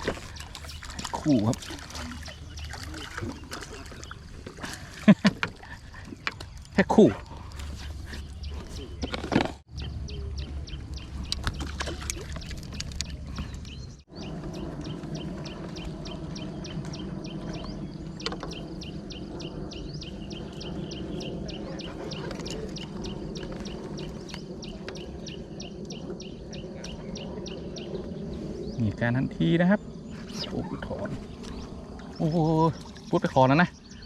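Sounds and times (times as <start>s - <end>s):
low rumble: 0.0s - 34.0s.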